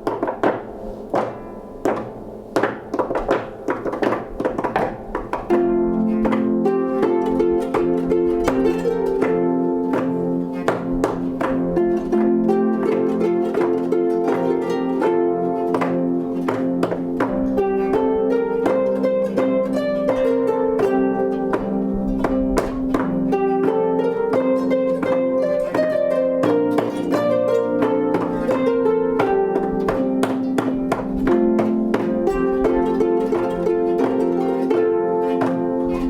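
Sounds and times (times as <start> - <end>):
plucked string music: 0.0 - 36.0.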